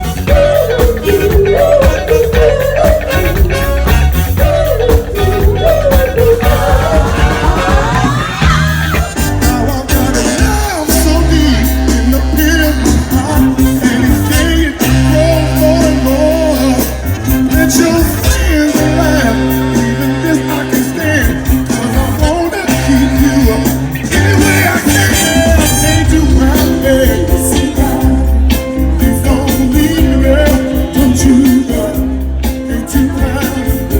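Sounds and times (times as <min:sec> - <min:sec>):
live band playing: 0:00.0 - 0:33.9
person singing: 0:00.0 - 0:33.9.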